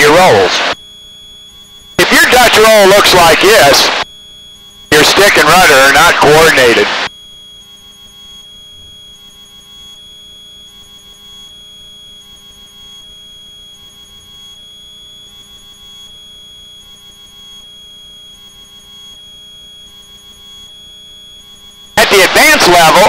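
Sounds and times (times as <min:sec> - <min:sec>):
high-pitched electronic whine: 0:00.0 - 0:23.0.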